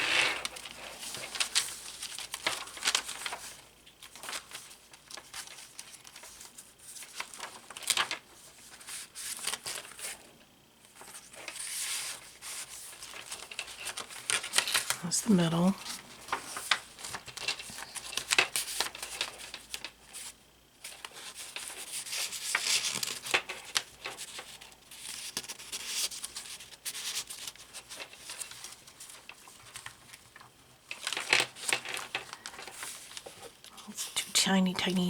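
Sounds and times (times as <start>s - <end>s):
paper pages rustling: 0.0s - 10.2s, 10.9s - 35.0s.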